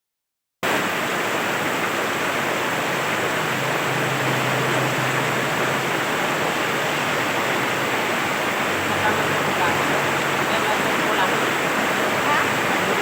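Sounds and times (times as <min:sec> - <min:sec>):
heavy rain falling: 0:00.7 - 0:13.0.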